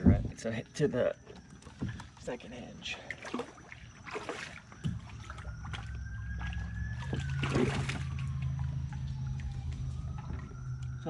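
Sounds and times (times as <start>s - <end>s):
steady low hum: 0.0s - 11.0s
water splashing: 1.0s - 11.0s.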